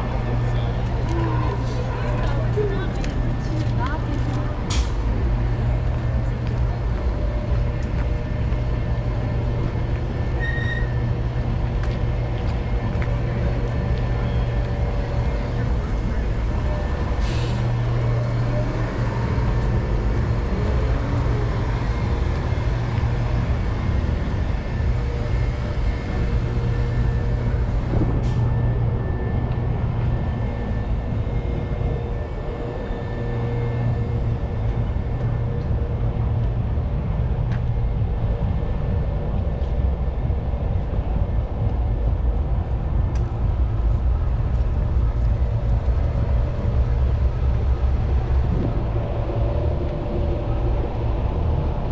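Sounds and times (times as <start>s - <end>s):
city street hum: 0.0s - 51.9s.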